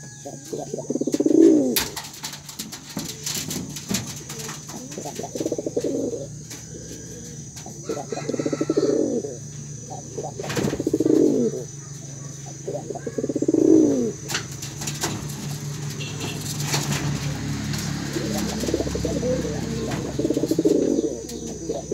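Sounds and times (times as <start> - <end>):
pigeon cooing: 0.0 - 21.9.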